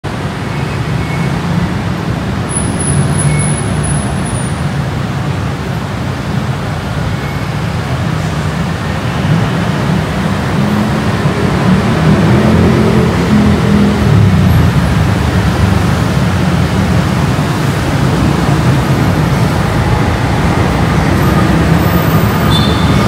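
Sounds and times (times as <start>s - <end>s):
road vehicle low rumble: 0.0s - 23.0s.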